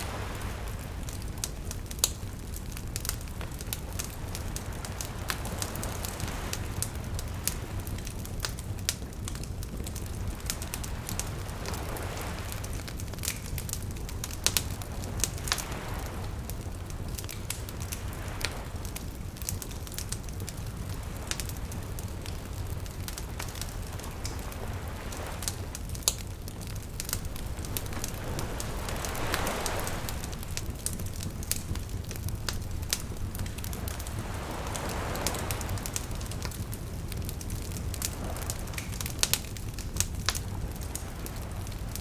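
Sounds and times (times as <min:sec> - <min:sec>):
small waves lapping: 0:00.0 - 0:08.2, 0:10.1 - 0:37.0
wood fire crackling: 0:00.0 - 0:42.0.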